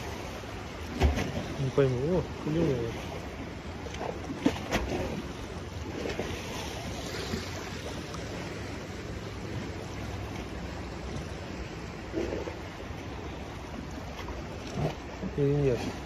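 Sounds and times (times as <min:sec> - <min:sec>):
surf washing: 0:00.0 - 0:16.0.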